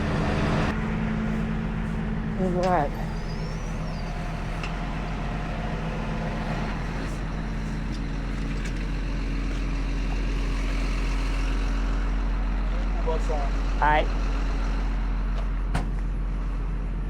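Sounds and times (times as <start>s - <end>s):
tow truck engine running: 0.0s - 17.0s.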